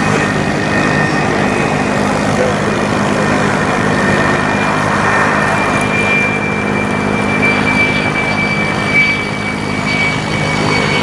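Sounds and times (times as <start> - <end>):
engine droning: 0.0 - 11.0
thin high whine: 0.0 - 11.0.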